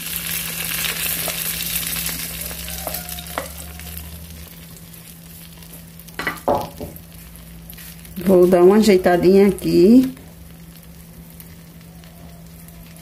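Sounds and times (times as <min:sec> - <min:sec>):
mixture sizzling in frying pan: 0:00.0 - 0:13.0.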